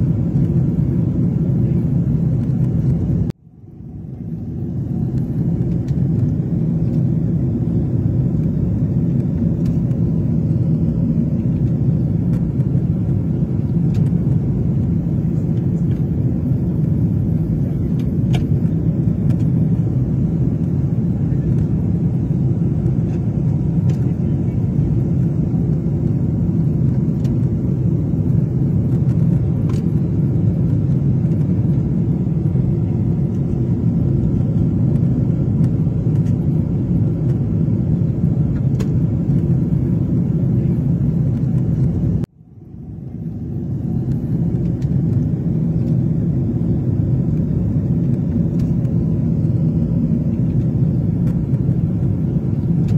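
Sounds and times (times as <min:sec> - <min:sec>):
jet engine roar in cabin: 0:00.0 - 0:52.9.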